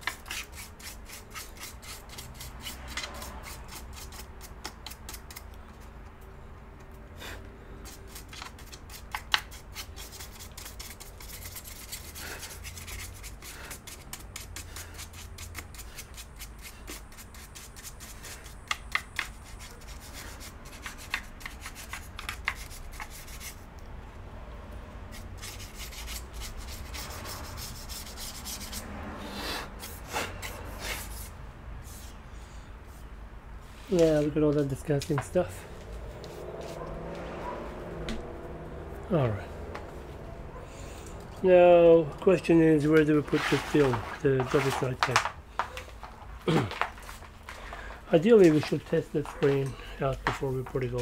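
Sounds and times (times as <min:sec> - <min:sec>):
rubbing and scraping on housing: 0:00.0 - 0:06.2, 0:07.8 - 0:23.7, 0:25.1 - 0:32.2, 0:32.8 - 0:37.6, 0:40.8 - 0:51.0.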